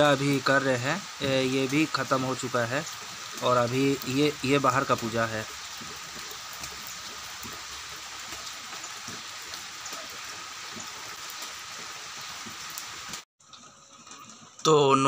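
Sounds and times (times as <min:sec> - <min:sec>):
steady rain on wet ground: 0:00.0 - 0:13.2.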